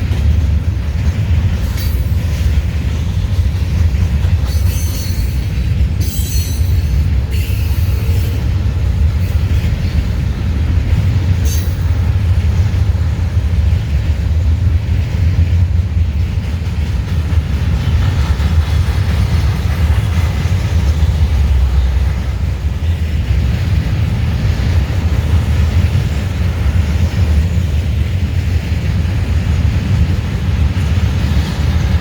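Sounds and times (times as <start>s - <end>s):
train cars rumbling past: 0.0s - 32.0s.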